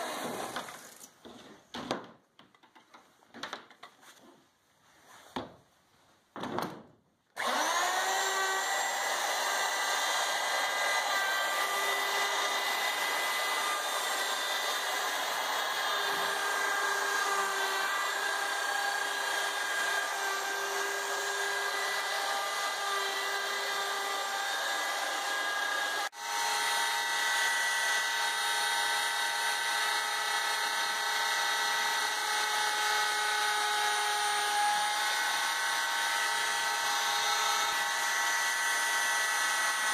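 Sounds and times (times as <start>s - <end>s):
electric router whining: 7.4s - 39.9s.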